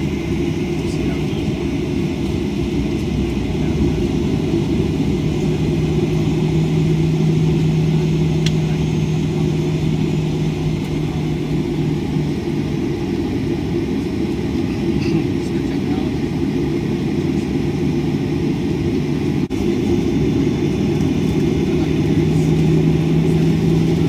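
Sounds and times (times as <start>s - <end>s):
jet cabin low rumble: 0.0s - 24.0s
low hum: 0.0s - 24.0s.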